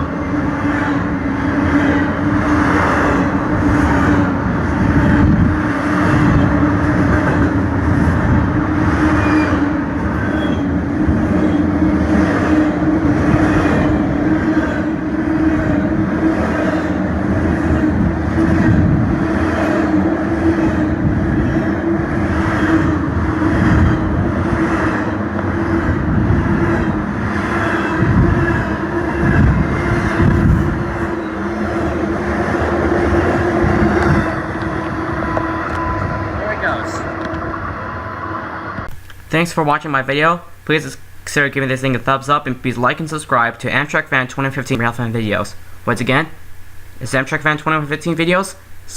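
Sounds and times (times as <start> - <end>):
low train tone: 0.0 - 48.9.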